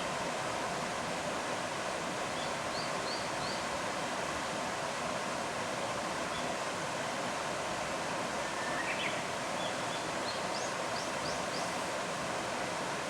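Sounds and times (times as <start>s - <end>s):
flowing river water: 0.0s - 13.0s.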